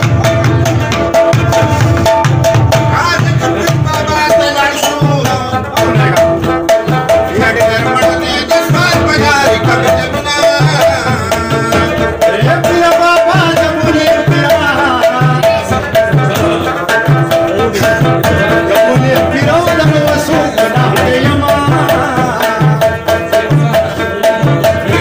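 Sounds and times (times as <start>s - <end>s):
clay-pot drum beat: 0.0s - 25.0s
rabab plucked: 0.0s - 25.0s.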